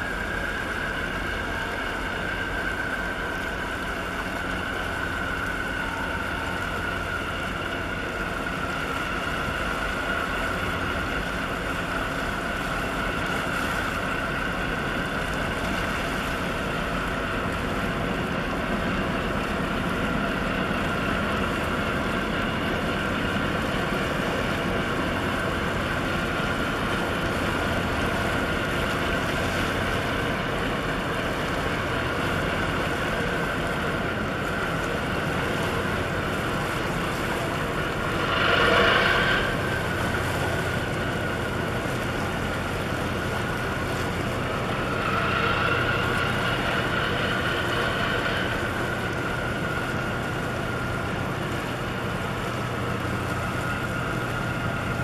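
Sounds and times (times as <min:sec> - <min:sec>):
continuous high whine: 0:00.0 - 0:55.0
diesel engine drone: 0:00.0 - 0:55.0.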